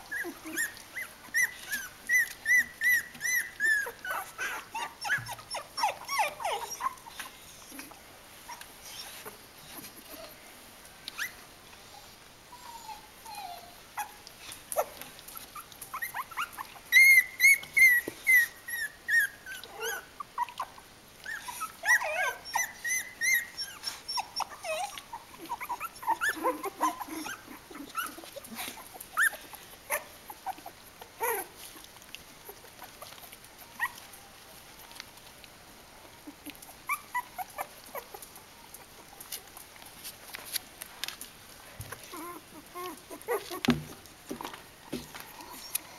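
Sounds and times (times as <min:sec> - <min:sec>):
puppies squeaking and whimpering: 0:00.0 - 0:10.4, 0:11.2 - 0:35.0, 0:36.1 - 0:40.6, 0:41.8 - 0:44.0, 0:44.9 - 0:45.9.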